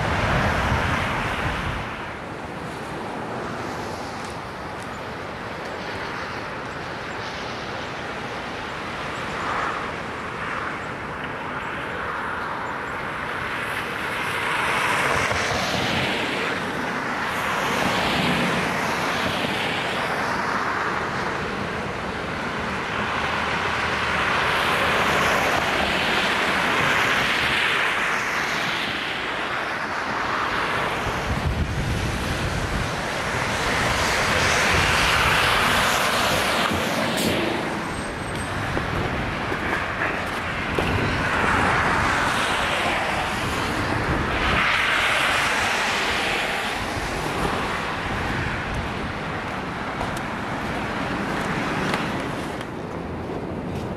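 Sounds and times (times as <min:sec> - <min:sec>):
vehicles passing with tyre hiss: 0:00.0 - 0:53.9.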